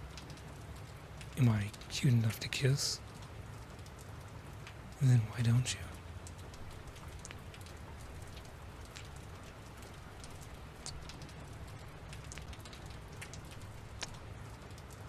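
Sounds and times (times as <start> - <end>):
raindrops ticking: 0.0 - 15.0
steady rain: 0.0 - 15.0.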